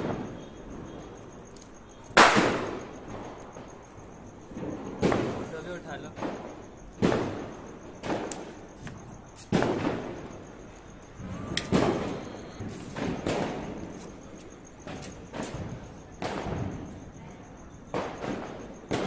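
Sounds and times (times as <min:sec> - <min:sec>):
firecrackers banging: 0:00.0 - 0:19.0.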